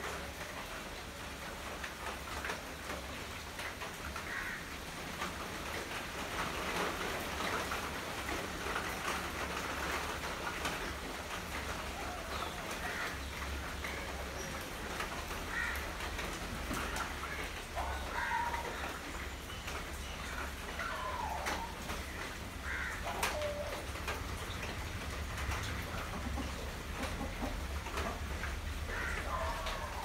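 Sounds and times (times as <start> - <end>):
rain pattering on puddles: 0.0 - 30.0.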